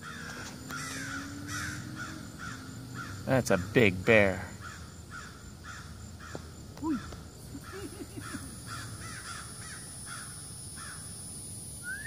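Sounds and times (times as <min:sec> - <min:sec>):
birds alarm calling: 0:00.0 - 0:11.3.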